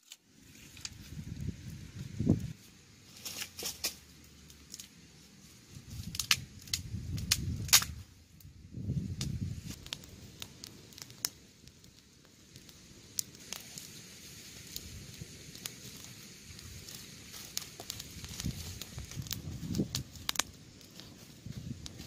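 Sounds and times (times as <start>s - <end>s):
faint hiss: 0.0s - 22.0s
wood fire crackling and popping: 0.0s - 22.0s.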